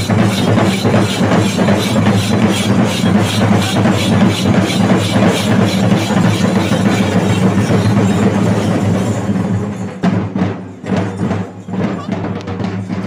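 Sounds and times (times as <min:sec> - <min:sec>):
cymbals: 0:00.0 - 0:13.0
drums beating fast rhythm: 0:00.0 - 0:13.0.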